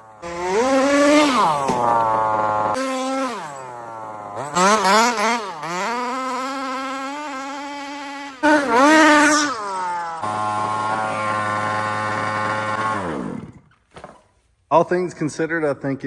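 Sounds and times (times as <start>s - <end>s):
small two-stroke engine revving: 0.0s - 14.3s.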